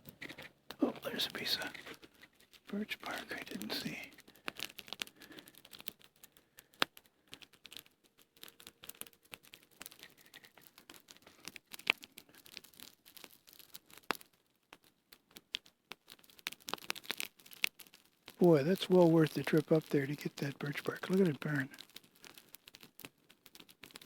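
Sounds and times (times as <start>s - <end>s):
campfire crackling: 0.0s - 24.0s
sharp pops of fire: 0.0s - 24.0s.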